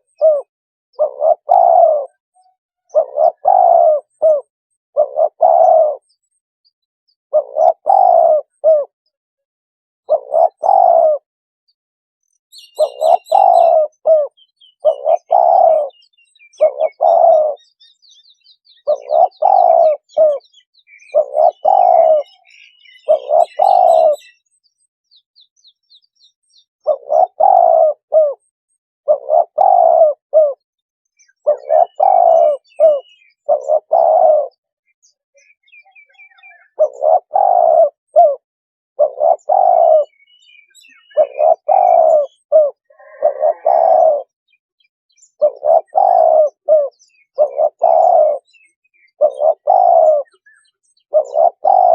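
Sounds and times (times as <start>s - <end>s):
dove cooing: 0.0s - 6.2s, 7.3s - 9.0s, 10.0s - 11.3s, 12.5s - 24.4s, 26.8s - 30.6s, 31.2s - 34.7s, 35.4s - 38.4s, 39.0s - 44.4s, 45.2s - 51.9s
small birds chirping: 0.0s - 9.2s, 10.0s - 11.2s, 12.2s - 38.4s, 39.0s - 51.9s.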